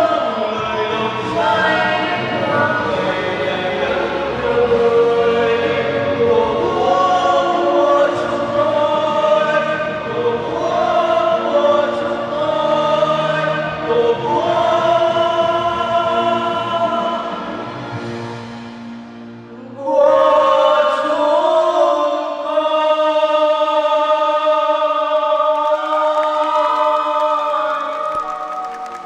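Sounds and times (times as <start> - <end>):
men singing into microphones: 0.0 - 17.8, 19.5 - 28.1.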